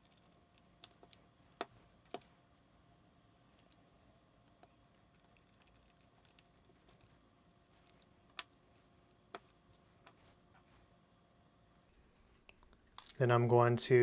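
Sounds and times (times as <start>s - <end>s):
quiet room hum: 0.0s - 14.0s.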